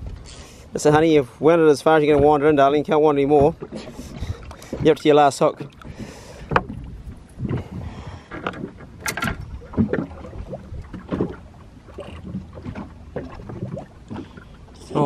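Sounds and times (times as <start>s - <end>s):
low wind rumble: 0.0s - 15.0s
waves slapping boat hull: 0.0s - 15.0s.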